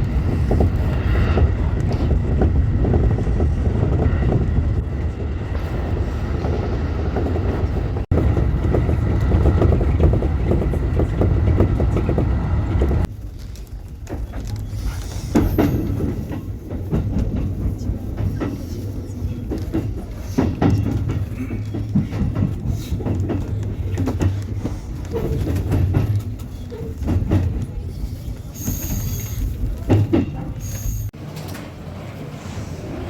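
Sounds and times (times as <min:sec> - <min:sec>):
train rumbling on rails: 0:00.0 - 0:33.0
wheels clacking over rail joints: 0:00.0 - 0:33.0.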